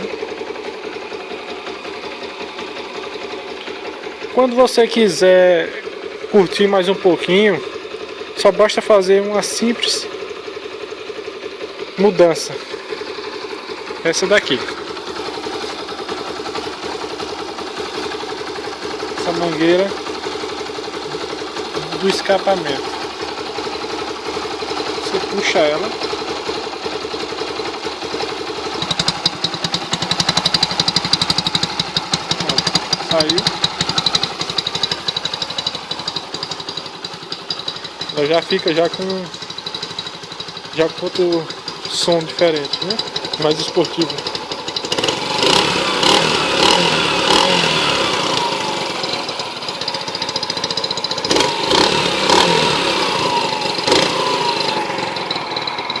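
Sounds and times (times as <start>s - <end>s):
exhaust puttering: 0.0s - 56.0s
motorcycle engine idling: 0.0s - 56.0s.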